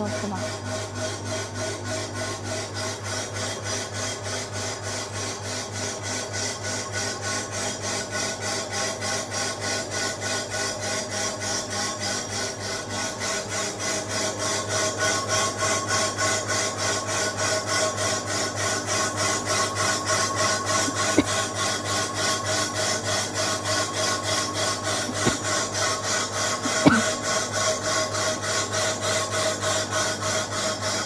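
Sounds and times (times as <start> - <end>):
lathe scraping cut on metal: 0.0 - 31.0
motor hum: 0.0 - 31.0.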